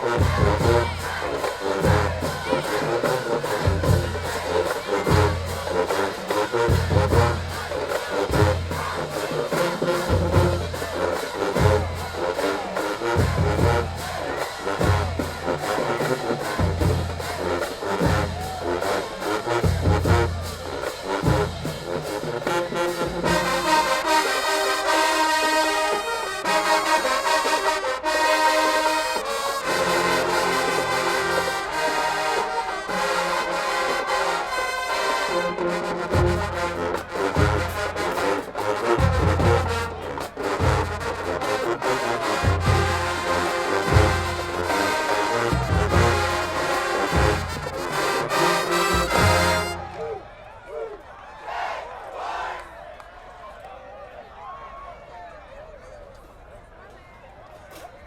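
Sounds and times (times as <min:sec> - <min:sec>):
marching drums: 0:00.0 - 0:27.8, 0:28.4 - 0:50.2
brass horns playing: 0:00.0 - 0:50.4.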